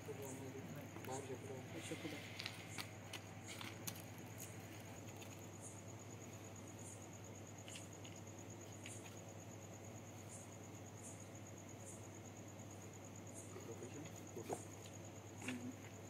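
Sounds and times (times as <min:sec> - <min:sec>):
crickets trilling: 0:00.0 - 0:16.0
insect chirping: 0:00.0 - 0:16.0.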